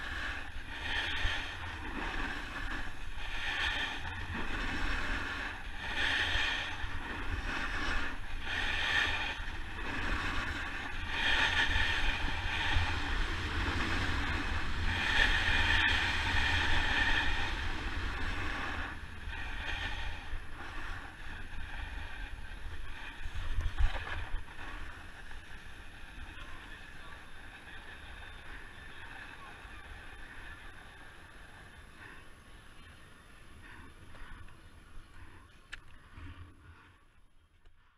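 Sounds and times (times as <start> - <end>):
snowboard scraping over snow: 0.0 - 32.2
wind rumble on microphone: 0.0 - 37.9.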